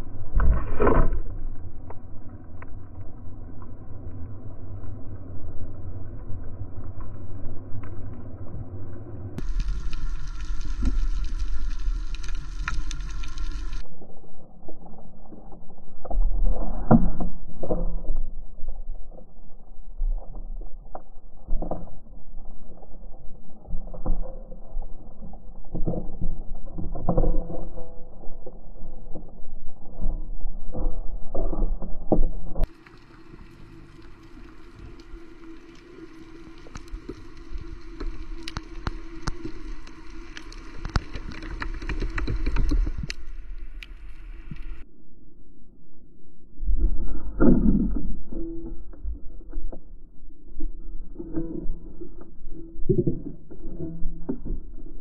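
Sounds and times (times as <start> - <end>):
underwater hiss and hum: 0.0 - 17.7, 18.4 - 55.0.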